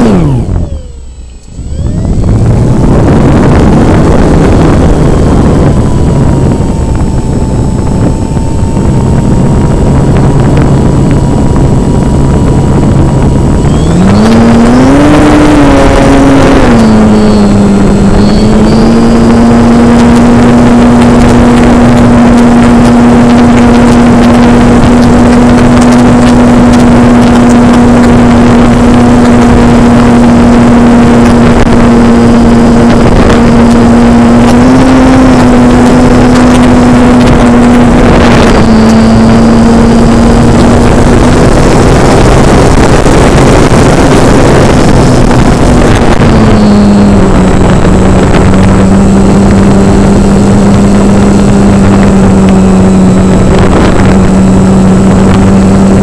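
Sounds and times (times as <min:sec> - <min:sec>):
model airplane motor humming: 0:00.0 - 0:56.0
wind rush: 0:00.0 - 0:56.0.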